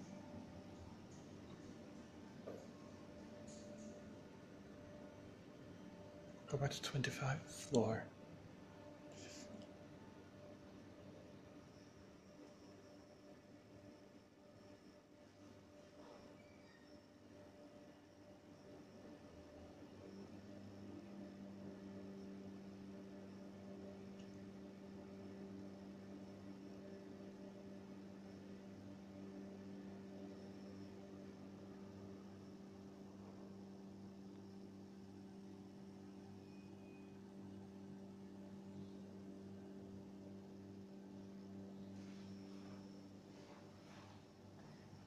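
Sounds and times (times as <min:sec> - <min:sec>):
faint electrical hum: 0:00.0 - 0:45.0.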